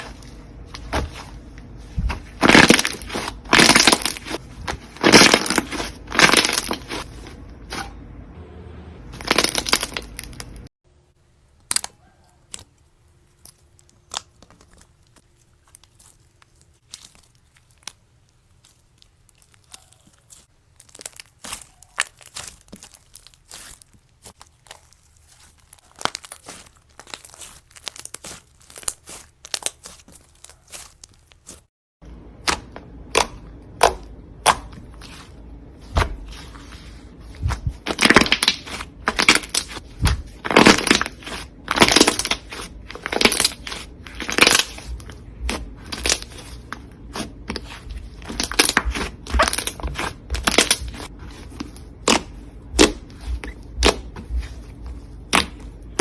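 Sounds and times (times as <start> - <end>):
slime crunching and crackling: 0.0 - 7.1, 9.2 - 10.7, 11.4 - 31.7, 32.3 - 56.0.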